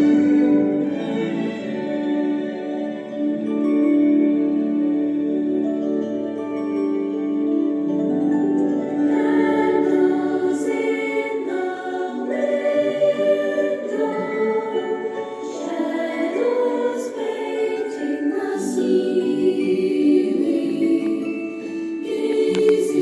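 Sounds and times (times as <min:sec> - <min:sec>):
choir singing sustained chords: 0:00.0 - 0:23.0.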